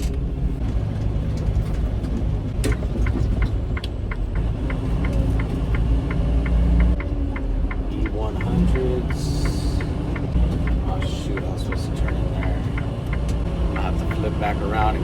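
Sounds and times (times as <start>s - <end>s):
diesel truck engine running: 0.0s - 15.0s
light regular ticking: 2.8s - 15.0s.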